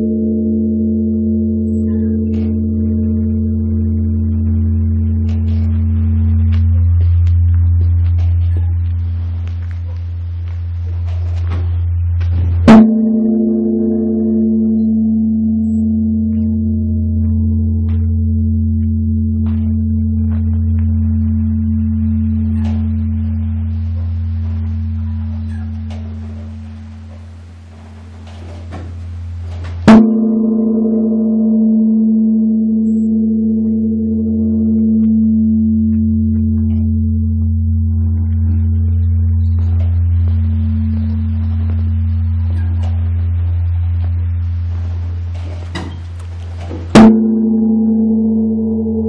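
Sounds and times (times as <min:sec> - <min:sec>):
large bronze bell humming: 0:00.0 - 0:49.0.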